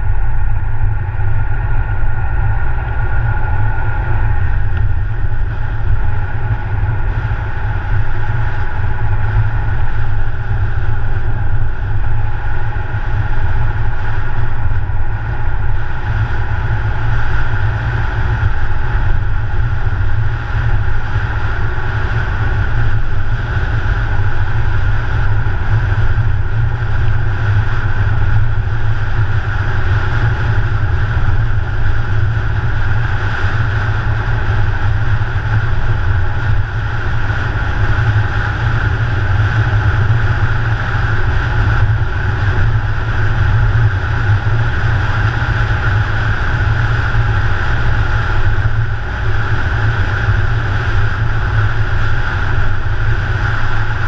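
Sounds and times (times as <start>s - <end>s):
car engine hum: 0.0s - 54.0s
tyre road noise: 0.0s - 54.0s
wind rumble: 0.0s - 54.0s.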